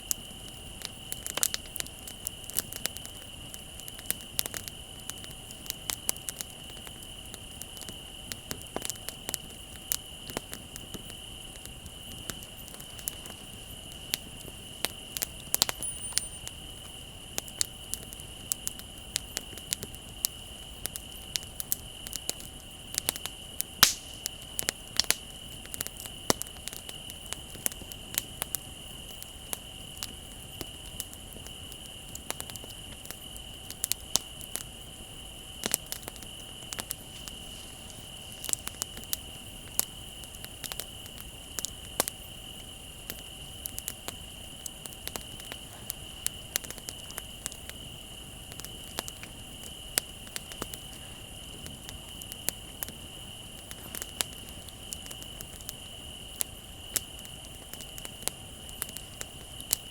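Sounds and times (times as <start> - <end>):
crickets trilling: 0.0 - 59.9
wood fire crackling and popping: 0.0 - 59.9.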